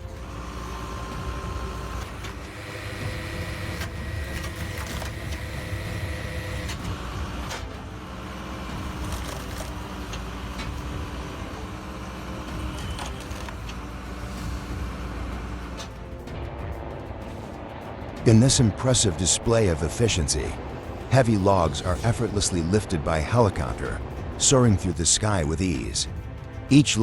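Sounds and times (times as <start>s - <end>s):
log splitter engine running: 0.0s - 26.4s.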